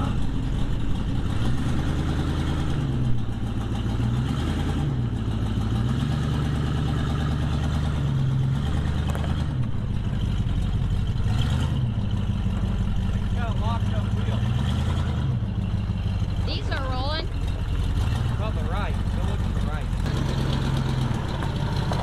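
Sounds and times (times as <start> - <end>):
pickup truck engine revving: 0.0 - 22.0.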